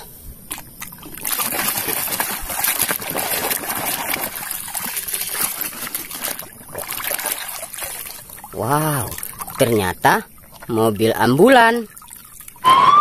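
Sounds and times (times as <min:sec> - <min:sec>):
muddy water splashing: 0:00.0 - 0:12.8.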